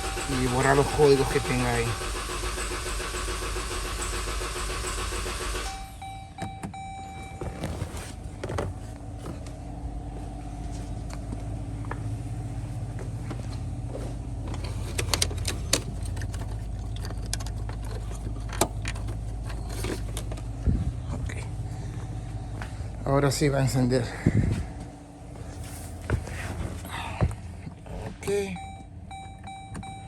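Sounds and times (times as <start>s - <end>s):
low hum: 5.7s - 30.0s.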